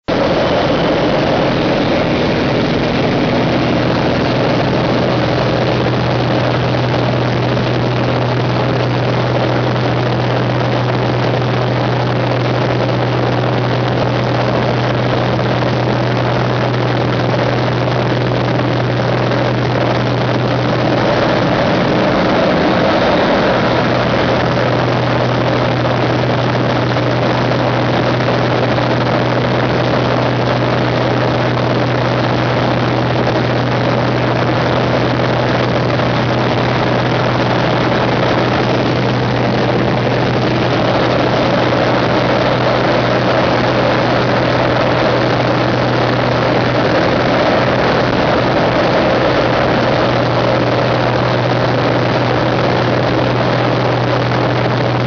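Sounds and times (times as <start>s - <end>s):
propeller plane engine droning: 0.0s - 55.0s
wind rush: 0.0s - 55.0s.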